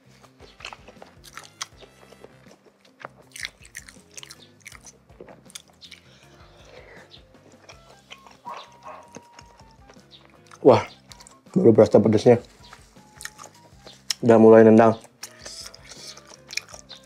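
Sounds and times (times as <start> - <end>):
soft background music: 0.0 - 17.0
chewing with mouth clicks: 0.2 - 14.2, 15.0 - 17.0.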